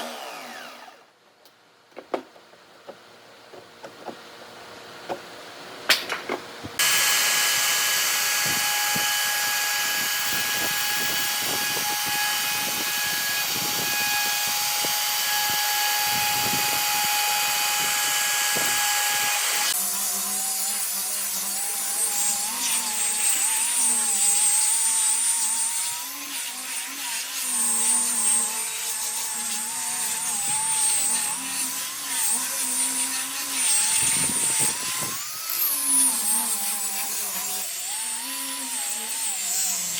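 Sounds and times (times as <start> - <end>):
power tool whining on wood: 0.0 - 1.1, 6.8 - 39.9.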